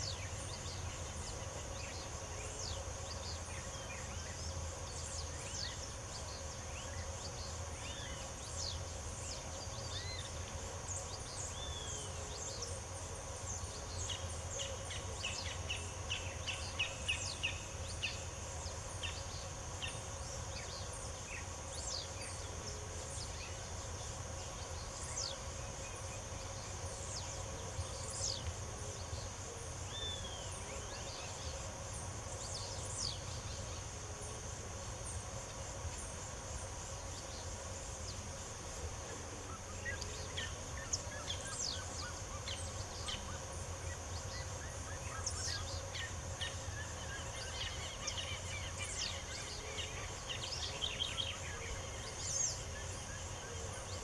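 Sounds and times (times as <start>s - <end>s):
high-pitched background hum: 0.0s - 54.0s.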